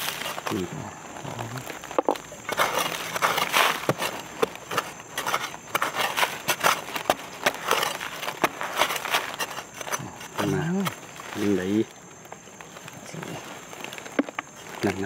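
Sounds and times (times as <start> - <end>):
loose earth scraping and falling: 0.0 - 15.0.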